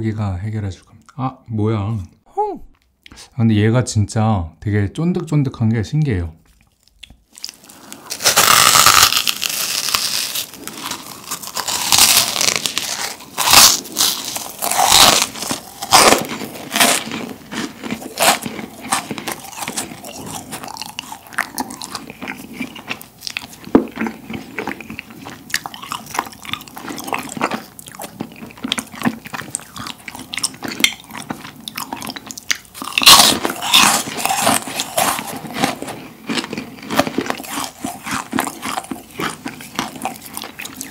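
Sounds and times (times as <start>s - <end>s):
crisp meringue crunching: 6.5s - 40.9s.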